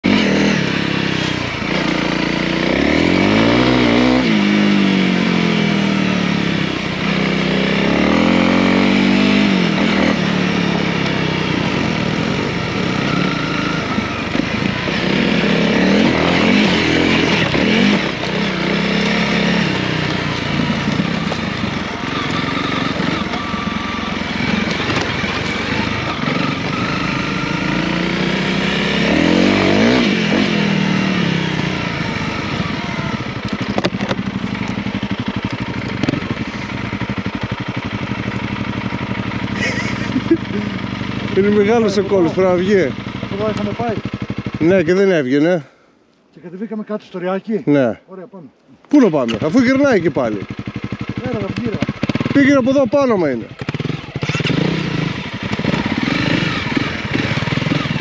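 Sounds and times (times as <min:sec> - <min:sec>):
motorcycle engine accelerating: 0:00.0 - 0:45.6, 0:48.9 - 0:58.0.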